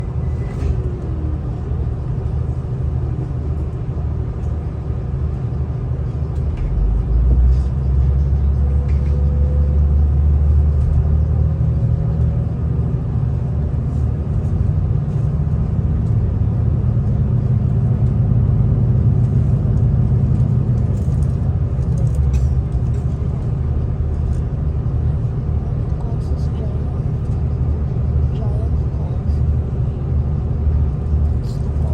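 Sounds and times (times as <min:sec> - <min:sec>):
diesel train rumble: 0:00.0 - 0:31.9.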